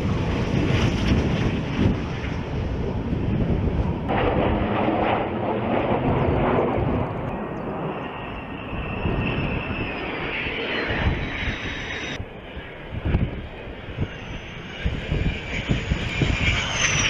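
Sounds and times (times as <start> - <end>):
fighter jet roaring on takeoff: 0.0 - 17.0
jet rush with high whine: 0.0 - 17.0.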